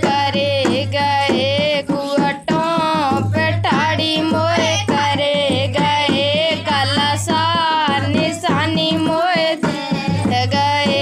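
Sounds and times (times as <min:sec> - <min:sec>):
hand drum beat: 0:00.0 - 0:11.0
person singing folk song: 0:00.0 - 0:11.0.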